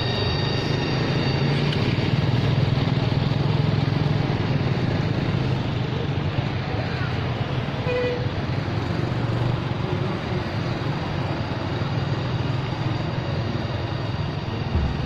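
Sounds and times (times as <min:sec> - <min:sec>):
motorcycles passing: 0:00.0 - 0:15.0
road traffic: 0:00.0 - 0:15.0.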